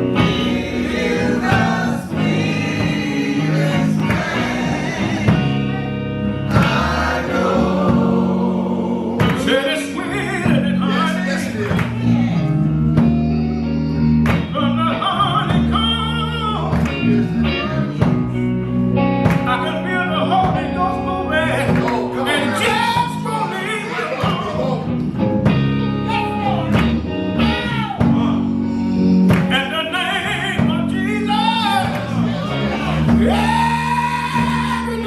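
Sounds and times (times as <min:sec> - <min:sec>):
gospel music with singing: 0:00.0 - 0:35.0.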